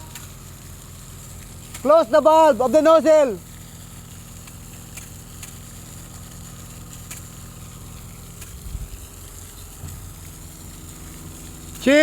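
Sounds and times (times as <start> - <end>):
fire pump humming: 0.0 - 12.0.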